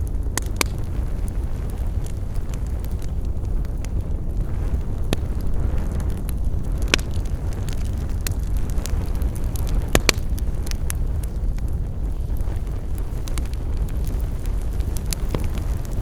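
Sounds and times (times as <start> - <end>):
campfire crackling and popping: 0.0 - 16.0
low rumble: 0.0 - 16.0.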